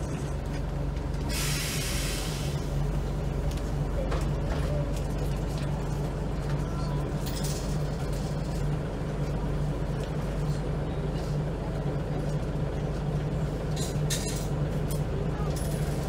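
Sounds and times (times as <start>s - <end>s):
diesel bus engine idling: 0.0s - 16.0s.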